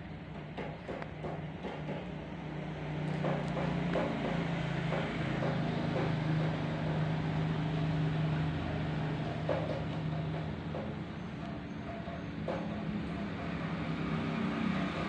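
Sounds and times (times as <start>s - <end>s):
motorcycle passing: 2.9s - 15.0s.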